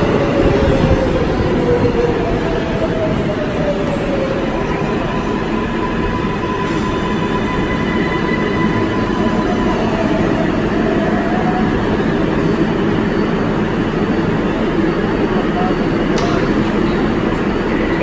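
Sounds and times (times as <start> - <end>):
train wheels and motors rumbling: 0.0 - 18.0.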